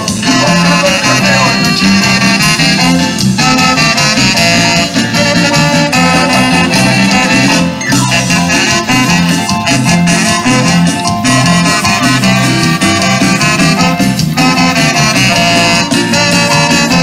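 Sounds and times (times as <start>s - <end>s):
latin dance music with brass: 0.0s - 17.0s.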